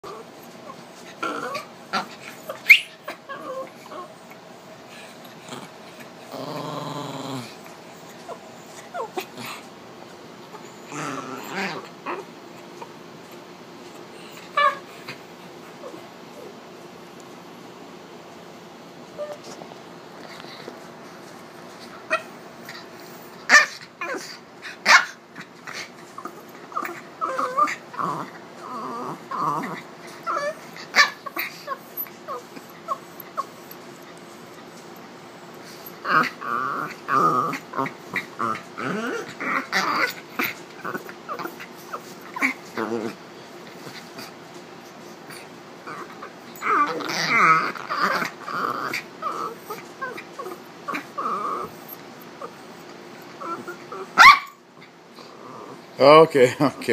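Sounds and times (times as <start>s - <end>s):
dog whining: 0.0s - 9.7s, 10.4s - 16.6s, 19.1s - 19.6s, 21.7s - 56.0s
dogs growling: 0.0s - 16.6s, 20.2s - 56.9s.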